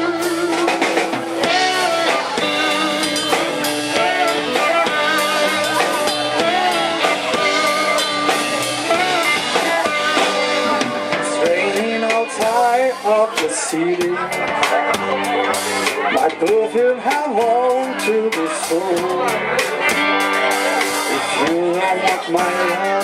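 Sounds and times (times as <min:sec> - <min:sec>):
blues-rock band playing: 0:00.0 - 0:23.0
lead guitar bent notes: 0:00.0 - 0:23.0.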